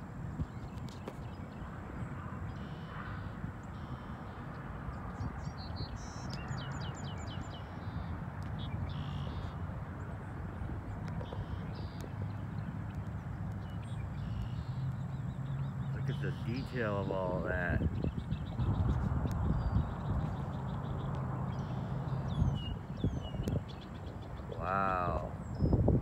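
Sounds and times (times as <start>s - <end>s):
small birds chirping: 0.3s - 26.0s.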